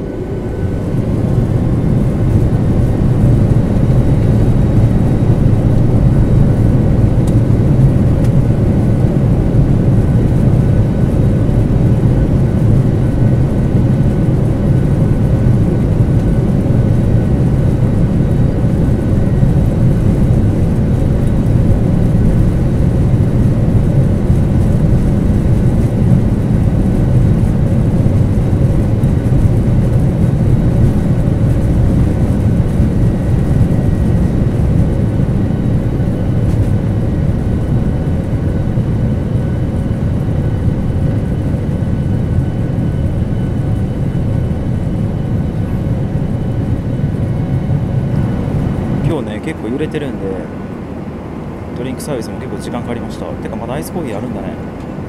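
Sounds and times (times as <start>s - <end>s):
airliner cabin engine roar: 0.0s - 55.0s.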